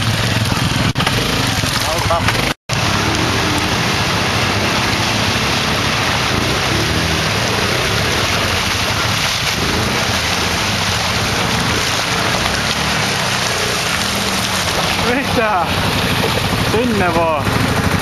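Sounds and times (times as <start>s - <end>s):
atv engine revving: 0.0s - 18.0s
rushing noise: 2.4s - 18.0s.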